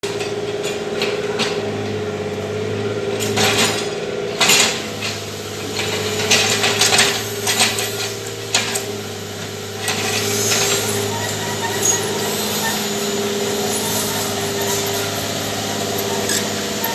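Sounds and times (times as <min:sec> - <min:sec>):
backhoe diesel engine running: 0:00.0 - 0:16.9.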